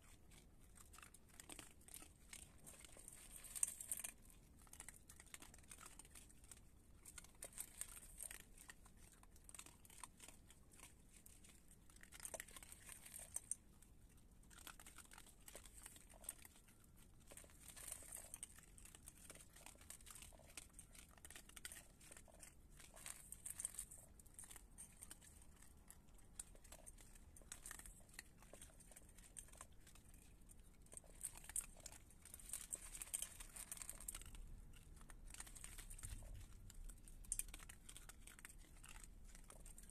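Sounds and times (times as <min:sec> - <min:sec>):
raccoons crunching dry kibble: 0:00.0 - 0:39.9.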